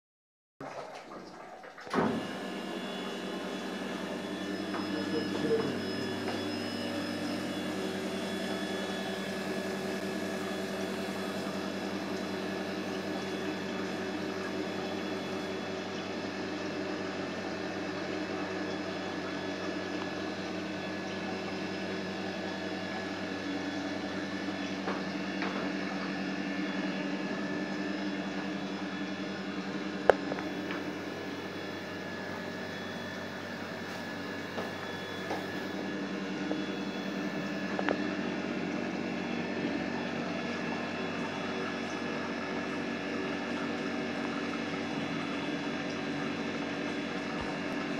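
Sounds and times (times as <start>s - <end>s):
pump motor humming: 0.6s - 47.9s.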